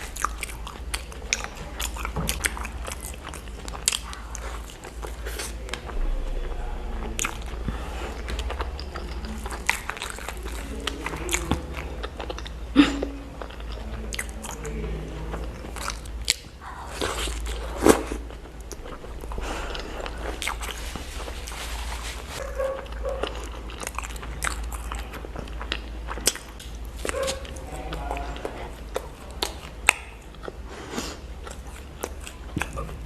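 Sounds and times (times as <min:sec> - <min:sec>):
person biting and chewing: 0:00.0 - 0:06.1, 0:07.0 - 0:14.7, 0:15.3 - 0:33.0.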